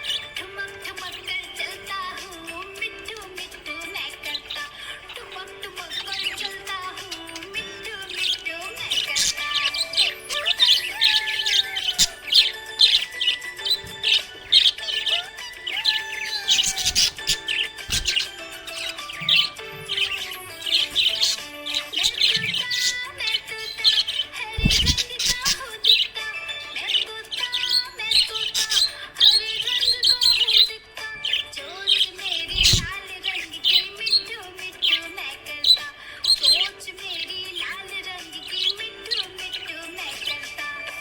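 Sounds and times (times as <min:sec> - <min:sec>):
background music with held tones: 0:00.0 - 0:41.0
parrots chirping and twittering: 0:00.0 - 0:41.0.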